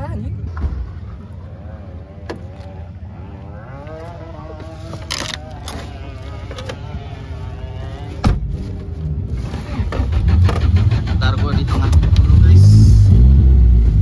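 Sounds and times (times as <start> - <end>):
car engine humming with whine: 0.0 - 14.0.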